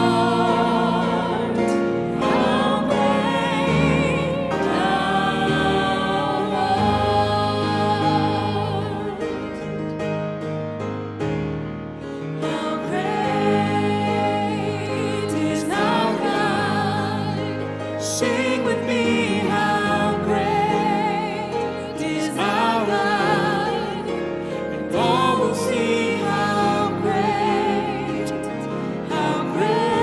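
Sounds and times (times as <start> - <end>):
person singing a hymn: 0.0 - 10.2, 12.1 - 30.0
keyboard accompaniment: 0.0 - 30.0.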